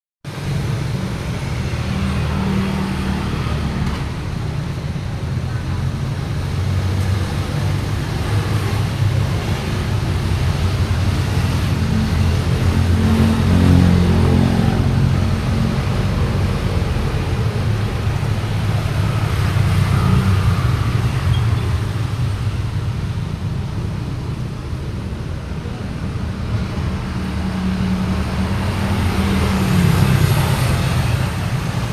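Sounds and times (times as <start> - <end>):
road traffic rumble: 0.2 - 31.9.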